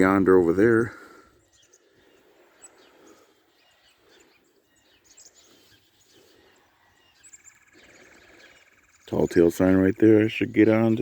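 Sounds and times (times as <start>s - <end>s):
faint outdoor ambience: 0.0s - 11.0s
bird chirps: 0.6s - 11.0s.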